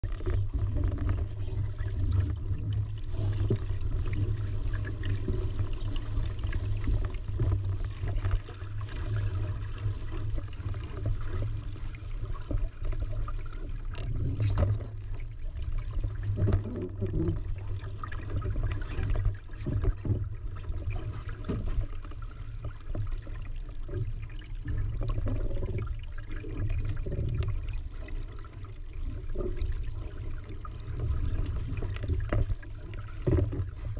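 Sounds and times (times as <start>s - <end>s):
water splashing along hull: 0.0s - 33.9s.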